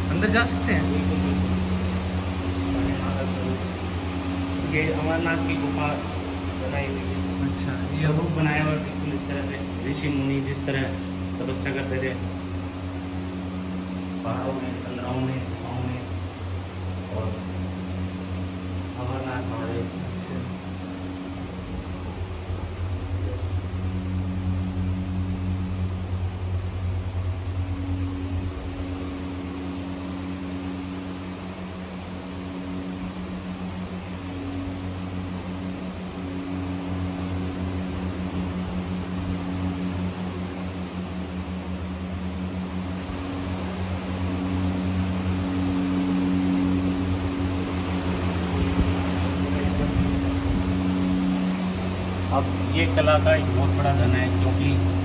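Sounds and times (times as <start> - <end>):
low hum of held tones: 0.0 - 55.0.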